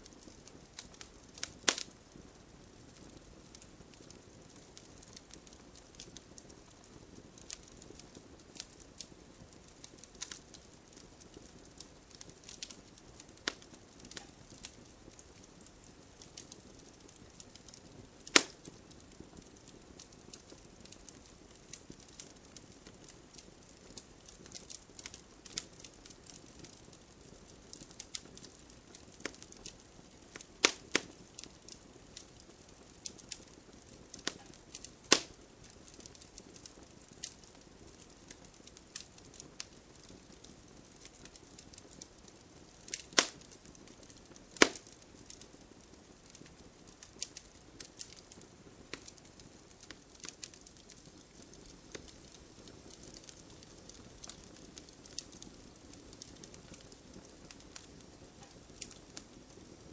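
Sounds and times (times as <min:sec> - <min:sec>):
bonfire crackling and popping: 0:00.0 - 0:59.9
gentle rain hiss: 0:00.0 - 0:59.9.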